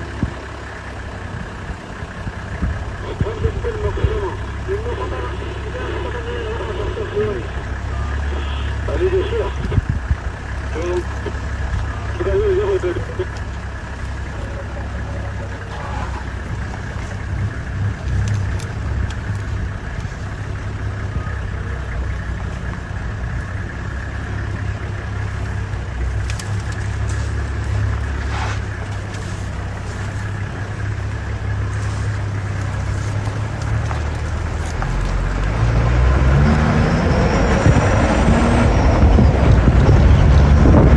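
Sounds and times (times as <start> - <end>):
vehicle engine running and revving: 0.0 - 40.9.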